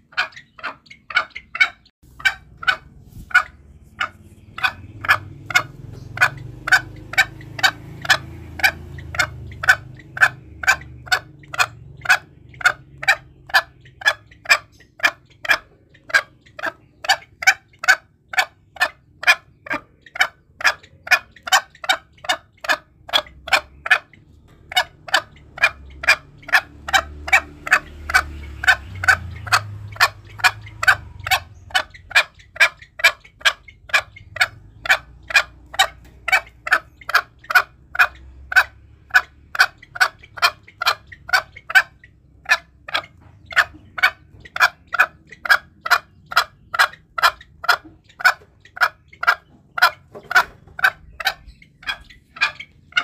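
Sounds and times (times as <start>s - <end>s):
junglefowl clucking call: 0.0s - 53.0s.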